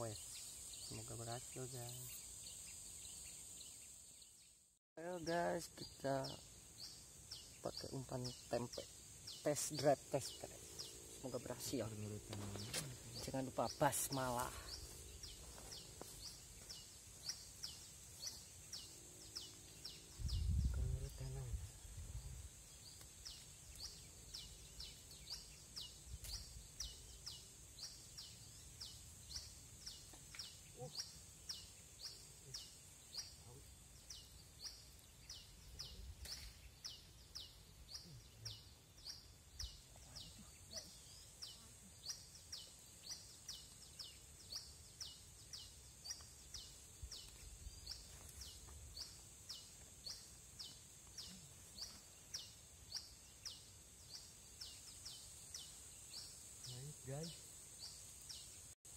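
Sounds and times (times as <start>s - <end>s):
insect hiss: 0.0s - 58.9s.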